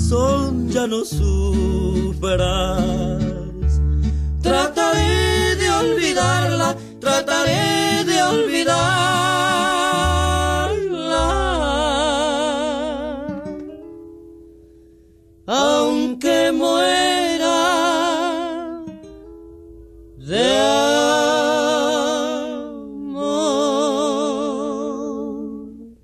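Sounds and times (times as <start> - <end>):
two voices singing in harmony: 0.0 - 13.6, 15.5 - 19.0, 20.2 - 26.0
acoustic guitar: 0.0 - 26.0.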